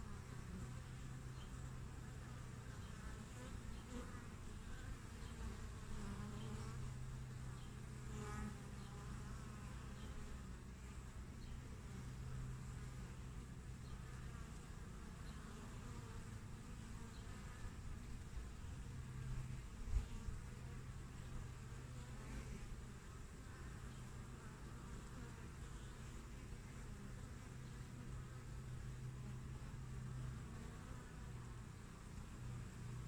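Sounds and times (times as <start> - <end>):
bee flying past: 0.0 - 33.0.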